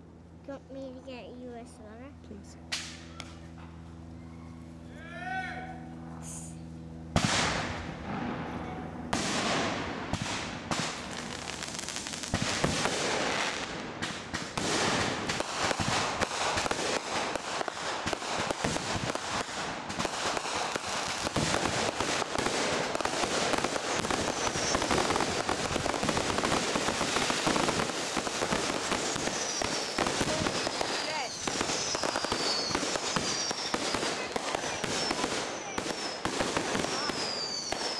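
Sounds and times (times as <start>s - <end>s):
fireworks bangs and crackling: 7.1s - 37.9s.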